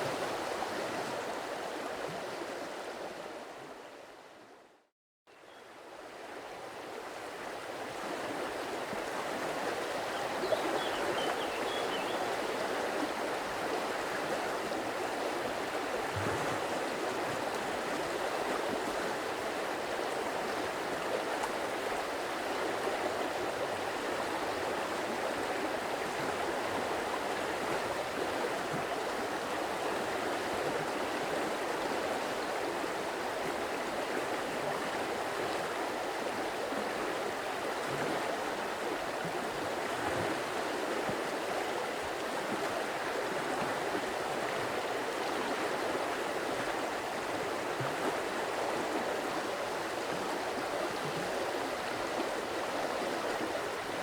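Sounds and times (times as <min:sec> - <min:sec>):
stream water running: 0:05.4 - 0:54.0.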